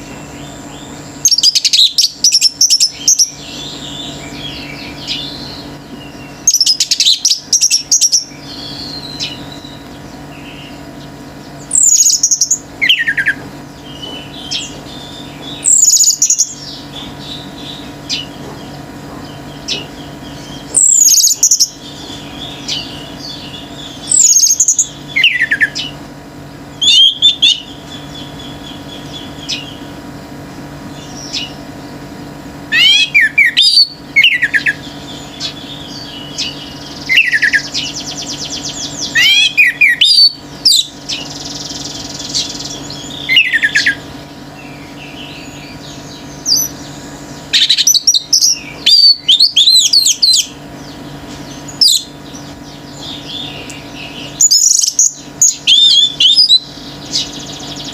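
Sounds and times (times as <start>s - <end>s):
faint steady hum: 0.0s - 57.9s
soft rapid bird trill: 0.0s - 57.9s.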